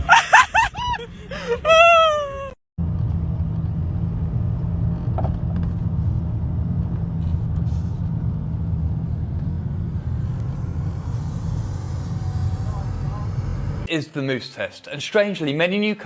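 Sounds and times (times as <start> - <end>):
motor vehicle rumbling: 0.0 - 13.9.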